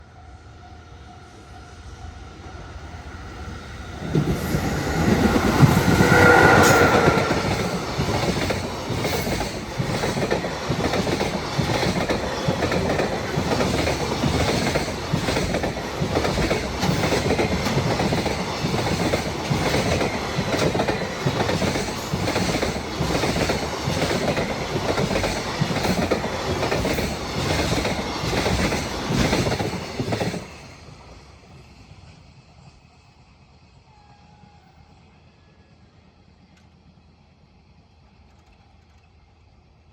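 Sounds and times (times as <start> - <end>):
electric locomotive passing: 0.0 - 39.9.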